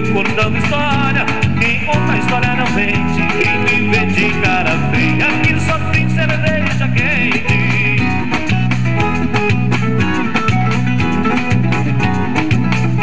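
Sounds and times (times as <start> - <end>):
electronic keyboard music with steady beat: 0.0 - 13.0.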